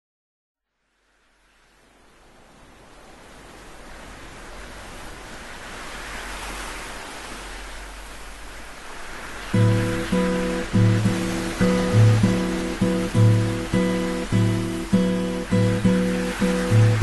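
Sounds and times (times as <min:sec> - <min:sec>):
ocean waves breaking on shore: 0:00.9 - 0:17.0.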